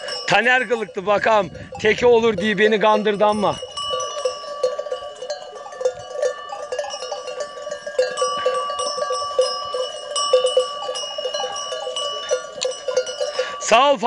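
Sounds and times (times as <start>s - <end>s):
livestock bells clanking: 0.0s - 14.0s.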